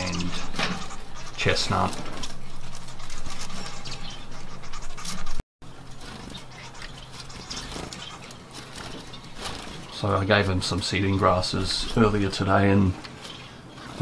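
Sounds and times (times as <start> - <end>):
scratchy rustling in cage: 0.0 - 12.4
finches chirping: 0.0 - 14.0.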